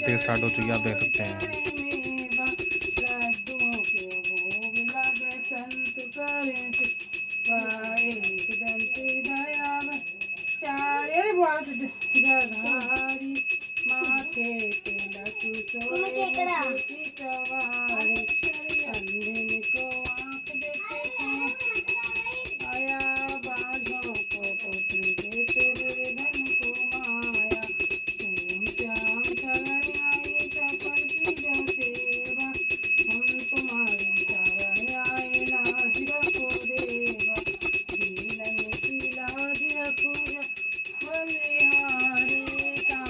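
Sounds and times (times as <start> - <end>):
devotional song singing: 0.0 - 43.0
hand bell ringing rapidly: 0.0 - 43.0.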